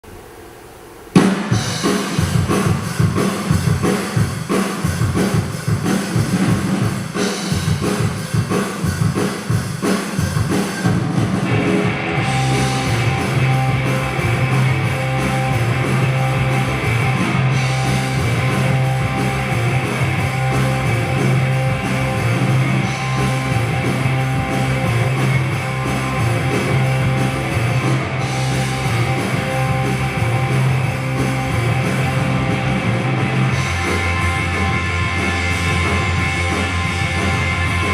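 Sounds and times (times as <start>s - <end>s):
rock music with electric guitar: 1.2s - 37.9s.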